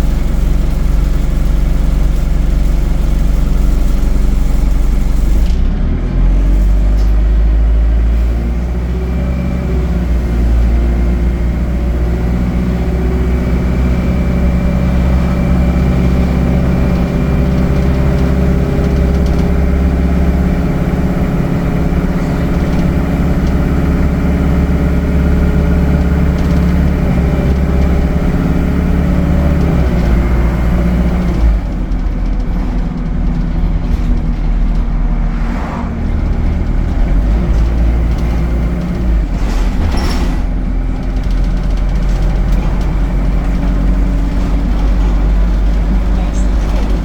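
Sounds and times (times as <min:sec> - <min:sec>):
bus engine and fan humming: 0:00.0 - 0:47.0.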